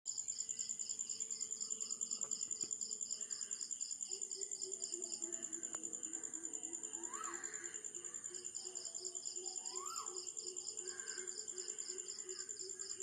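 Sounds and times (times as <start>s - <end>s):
high-pitched insect chirping: 0.1s - 13.0s.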